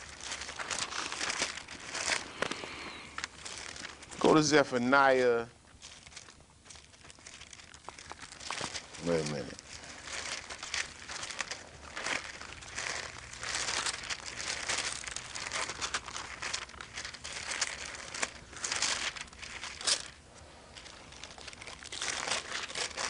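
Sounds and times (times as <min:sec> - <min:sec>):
thin pages rustling and flicking: 0:00.0 - 0:04.5, 0:05.8 - 0:23.0.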